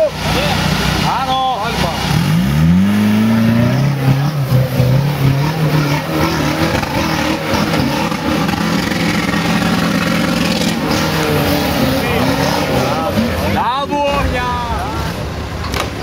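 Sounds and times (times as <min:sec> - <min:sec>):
engine revving under load: 0:00.0 - 0:16.0
tyres churning loose dirt: 0:00.0 - 0:16.0.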